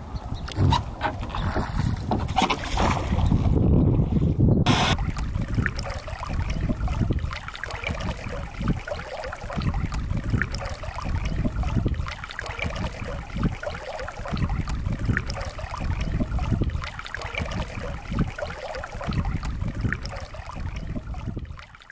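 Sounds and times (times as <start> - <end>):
wind buffeting microphone: 0.0 - 21.6
water lapping against boat hull: 0.0 - 21.9.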